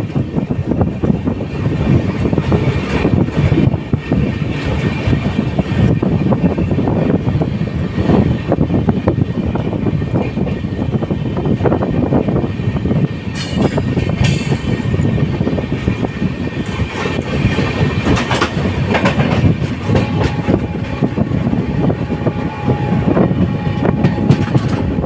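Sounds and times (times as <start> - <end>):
train rumbling: 0.0 - 25.0
wheels clattering over rail joints: 0.1 - 25.0.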